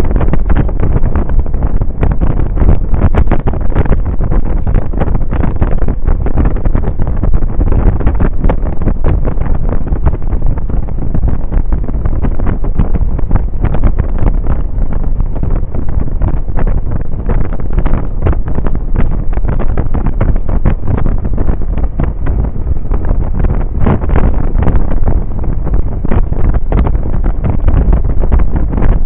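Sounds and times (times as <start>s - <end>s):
road and engine noise: 0.0s - 29.0s
wind buffeting microphone: 0.0s - 29.0s.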